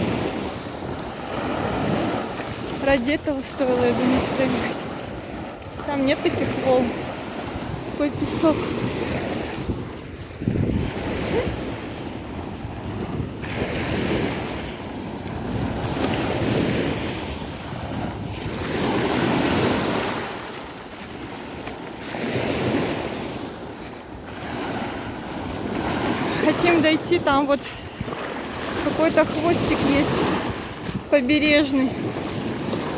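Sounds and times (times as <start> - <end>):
sea waves breaking on beach: 0.0 - 32.9
wind buffeting microphone: 0.0 - 32.9.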